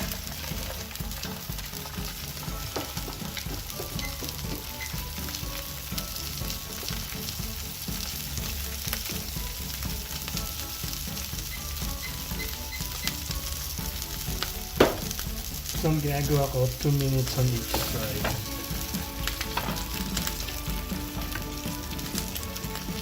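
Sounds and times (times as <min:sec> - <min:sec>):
fish sizzling in oil: 0:00.0 - 0:23.0.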